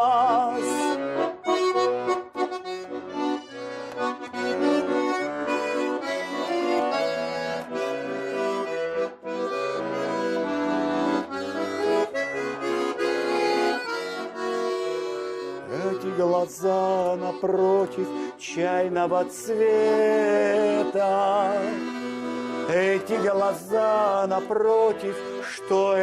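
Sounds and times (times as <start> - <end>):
accordion playing: 0.0 - 26.0.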